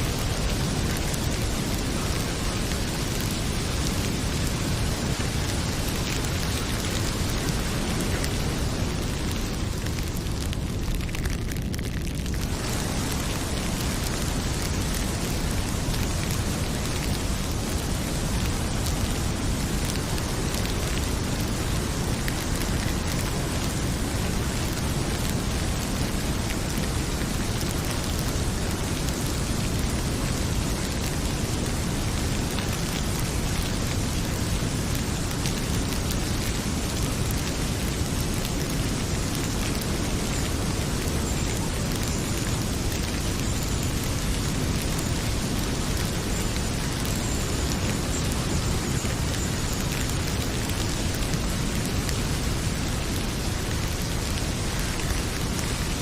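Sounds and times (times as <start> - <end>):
heavy rain pouring: 0.0 - 56.0
wood fire crackling: 0.0 - 56.0.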